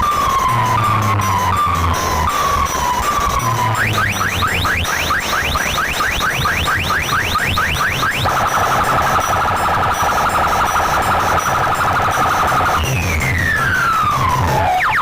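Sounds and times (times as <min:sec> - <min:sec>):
pulsing bass beat: 0:00.0 - 0:14.6
siren-like electronic sound effects: 0:00.0 - 0:15.0.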